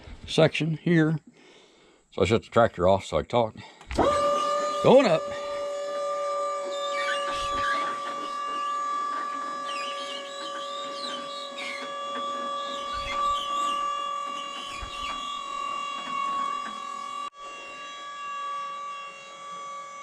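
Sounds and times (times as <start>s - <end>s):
hydraulic pump motor whining: 3.8s - 20.0s.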